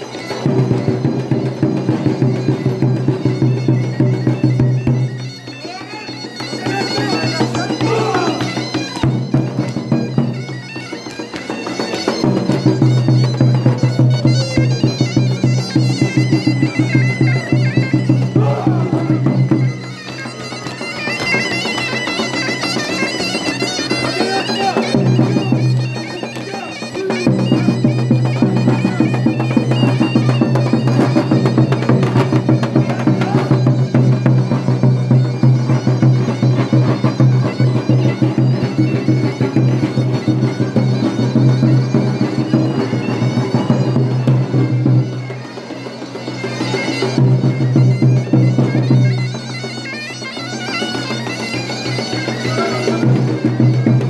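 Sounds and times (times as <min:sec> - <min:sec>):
drum beating steadily: 0:00.0 - 0:54.0
zurna playing a dance tune: 0:00.0 - 0:54.0.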